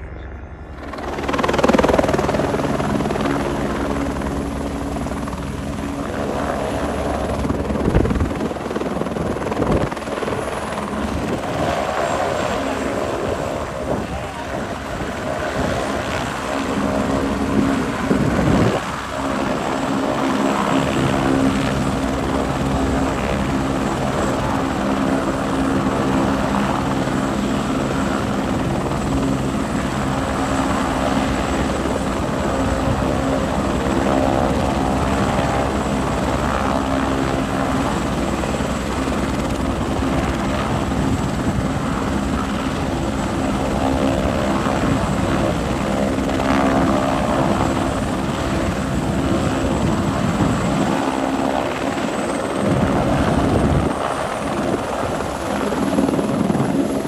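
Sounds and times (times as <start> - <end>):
helicopter rotor drone: 0.0 - 57.0.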